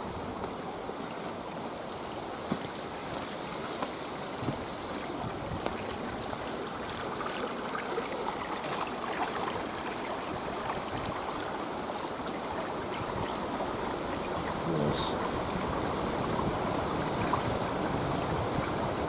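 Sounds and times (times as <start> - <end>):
river running: 0.0 - 19.0.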